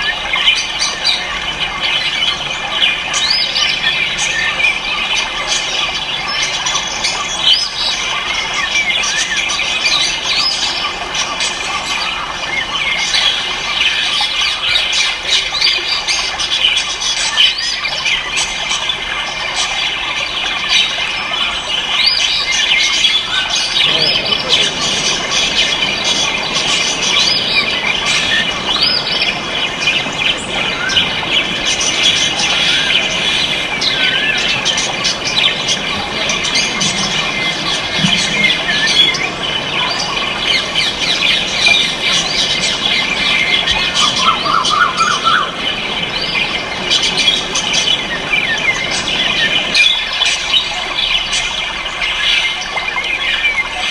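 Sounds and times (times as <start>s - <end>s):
cage birds squawking and chirping: 0.0s - 53.9s
noisy background din: 0.0s - 53.9s.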